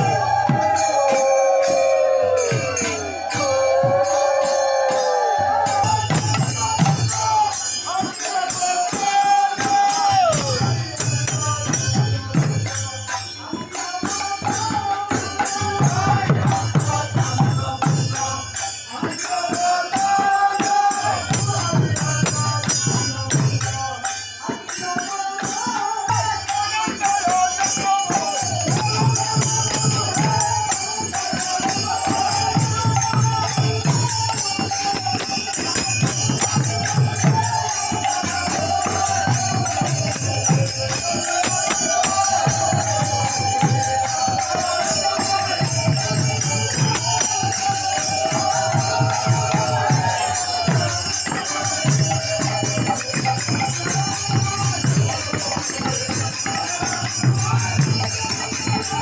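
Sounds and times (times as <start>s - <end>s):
hand cymbals clashing: 0.0s - 59.0s
khol drums beaten fast: 0.0s - 59.0s
voices chanting a melody: 0.0s - 59.0s.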